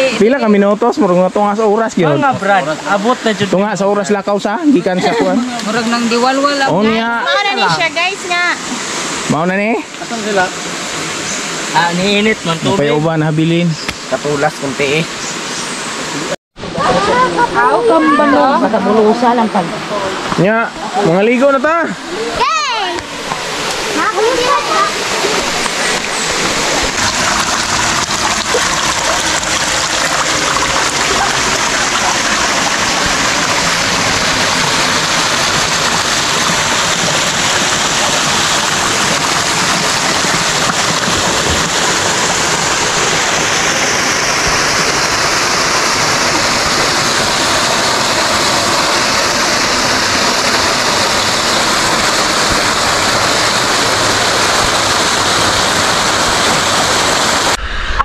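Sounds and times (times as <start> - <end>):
small waterfall splashing: 5.4 - 57.6.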